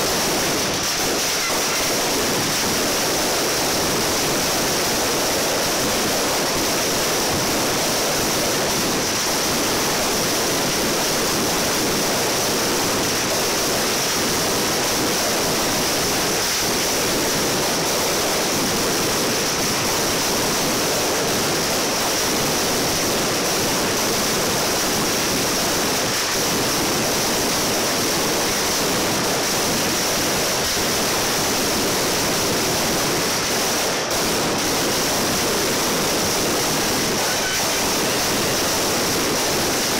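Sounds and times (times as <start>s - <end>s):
firecrackers crackling rapidly: 0.0s - 39.9s.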